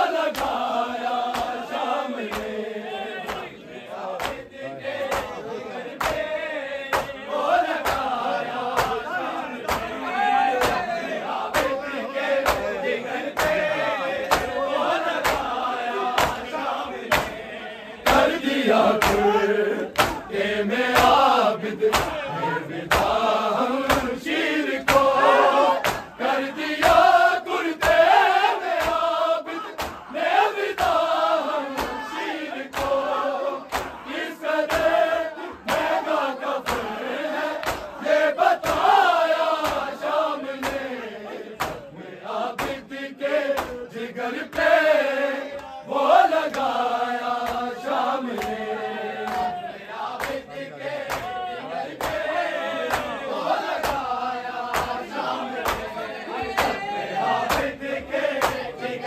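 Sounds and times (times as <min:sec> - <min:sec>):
men chanting a lament: 0:00.0 - 0:59.0
hands slapping chests: 0:00.3 - 0:02.6, 0:03.2 - 0:41.0, 0:41.6 - 0:41.9, 0:42.6 - 0:42.9, 0:43.5 - 0:43.9, 0:46.4 - 0:46.8, 0:47.4 - 0:48.6, 0:49.2 - 0:58.8.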